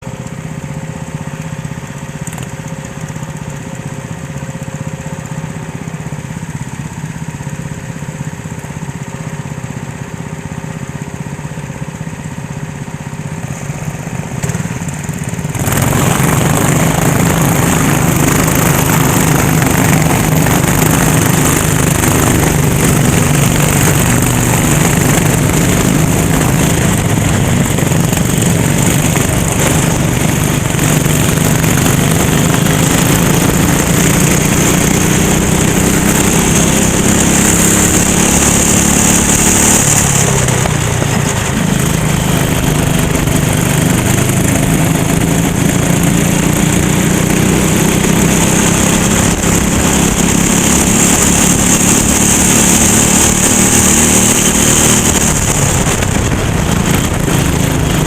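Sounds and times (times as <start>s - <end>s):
kart engine running: 0.0s - 58.0s.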